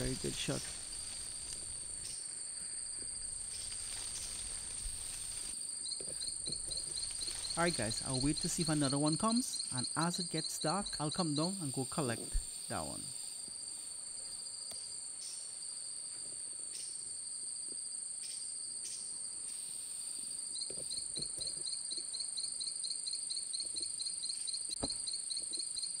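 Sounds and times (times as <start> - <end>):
insect chirping rapidly: 0.0 - 16.0, 18.2 - 26.0
insects trilling: 0.0 - 26.0.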